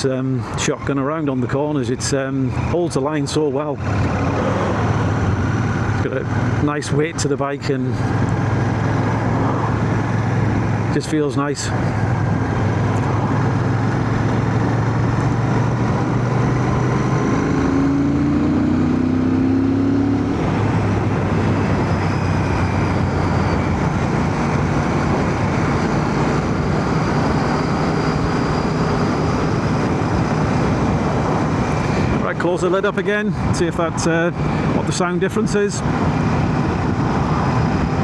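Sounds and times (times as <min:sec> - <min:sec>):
wind and road noise: 0:00.0 - 0:38.0
motorcycle engine cruising: 0:01.0 - 0:38.0.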